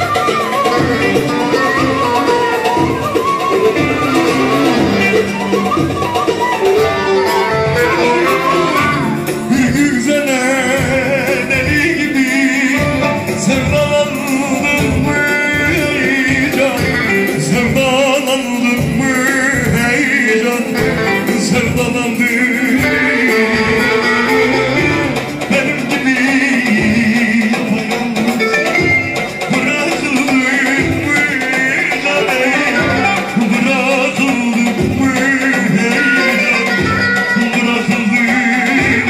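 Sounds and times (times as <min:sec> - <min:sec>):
man singing with vibrato: 0:06.5 - 0:39.0.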